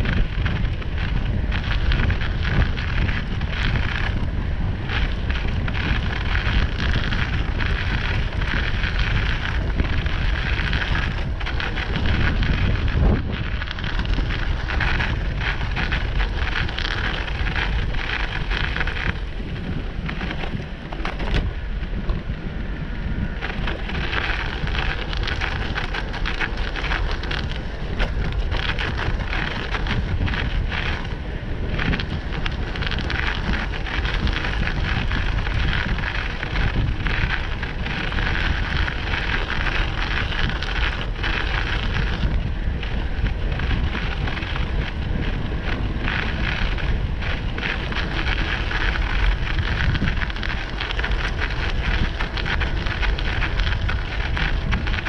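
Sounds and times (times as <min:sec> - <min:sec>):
tyres crunching over snow: 0:00.0 - 0:55.0
wind rumbling on microphone: 0:00.0 - 0:55.0.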